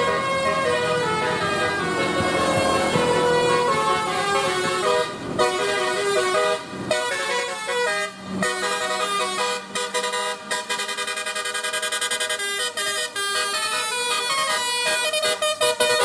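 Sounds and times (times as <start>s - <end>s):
bus musical horn tune: 0.0s - 16.0s.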